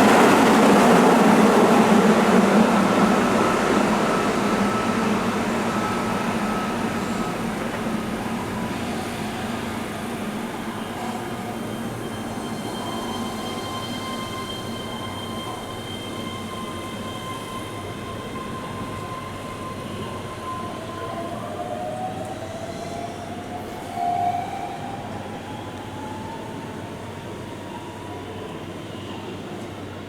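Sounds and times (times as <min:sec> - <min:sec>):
electric train rumbling: 0:00.0 - 0:30.0
rising train whine: 0:00.0 - 0:30.0.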